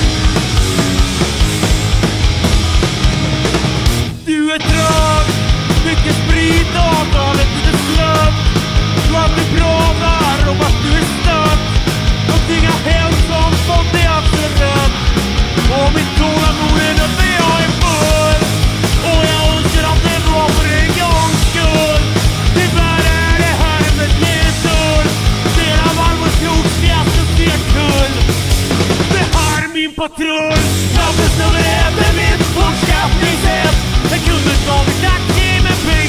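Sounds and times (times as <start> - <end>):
melodic guitar lead line: 0.0 - 29.6, 30.5 - 36.0
driving drum beat: 0.0 - 36.0
punk rock band playing: 0.0 - 36.0.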